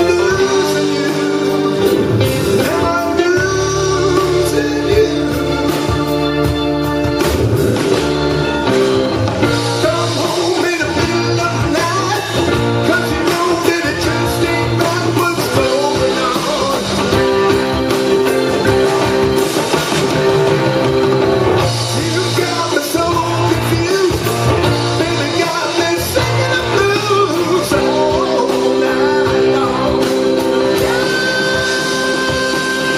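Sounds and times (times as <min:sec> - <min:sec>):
blues band playing live: 0:00.0 - 0:32.9.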